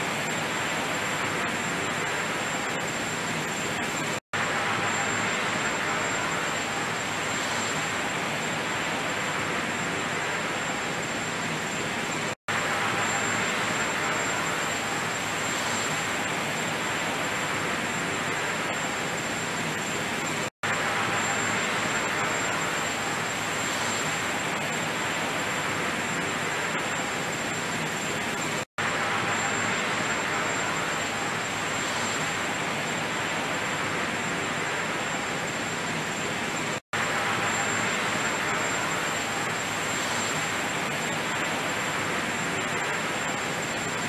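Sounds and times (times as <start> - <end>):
faint high whine: 0.0 - 44.0.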